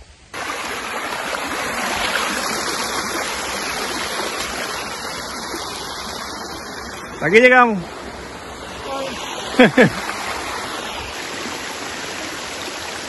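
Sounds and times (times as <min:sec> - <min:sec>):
water rushing over rocks: 0:00.3 - 0:13.0.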